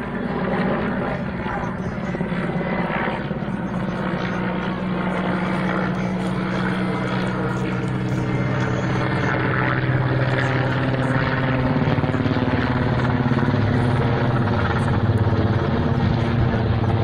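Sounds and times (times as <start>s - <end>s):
helicopter rotor beating: 0.0s - 17.0s
low engine hum: 0.0s - 17.0s.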